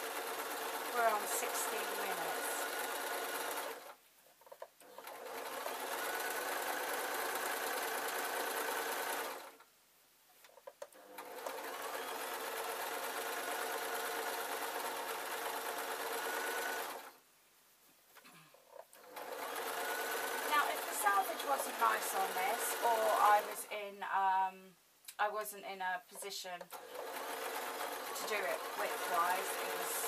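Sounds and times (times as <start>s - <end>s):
electric sewing machine stitching: 0.0s - 9.6s, 10.9s - 17.2s, 18.7s - 23.7s, 26.7s - 30.0s.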